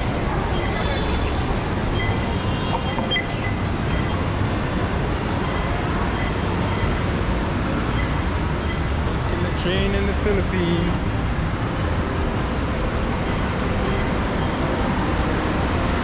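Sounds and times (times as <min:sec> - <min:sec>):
road traffic rumble and hiss: 0:00.0 - 0:16.0.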